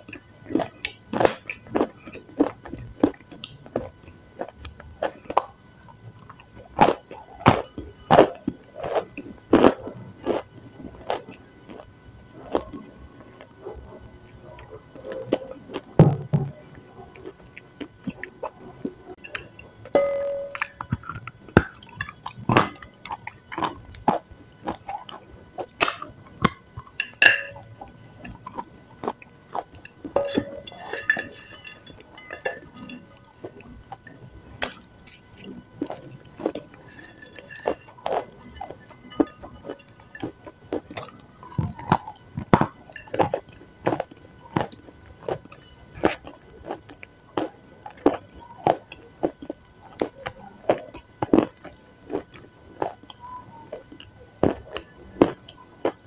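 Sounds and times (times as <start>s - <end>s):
person chewing crunchily: 0.0s - 56.0s.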